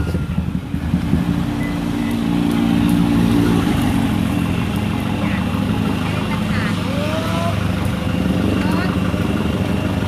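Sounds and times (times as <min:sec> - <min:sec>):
street noise: 0:00.0 - 0:10.0
vehicle engine running: 0:00.0 - 0:10.0.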